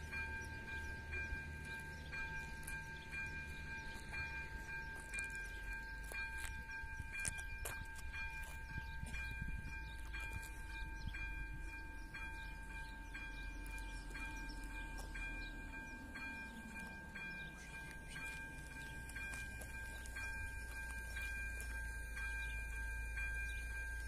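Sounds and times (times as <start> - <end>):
electronic level-crossing bell ringing: 0.0 - 24.0.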